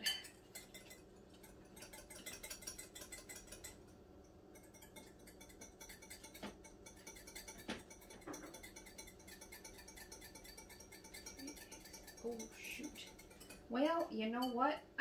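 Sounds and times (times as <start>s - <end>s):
whisk ticking against bowl: 0.0s - 14.6s.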